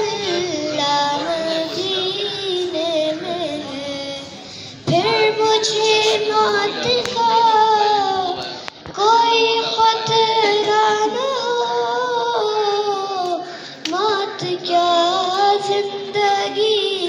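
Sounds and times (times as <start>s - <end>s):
boy singing a hymn: 0.0s - 17.0s.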